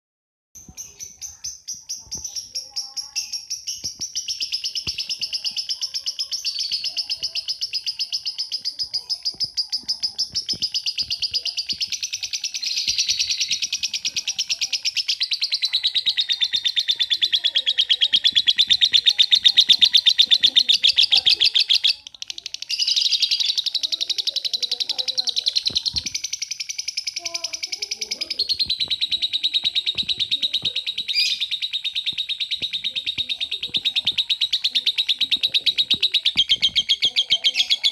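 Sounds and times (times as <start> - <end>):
lovebird chattering: 0.6 - 37.9.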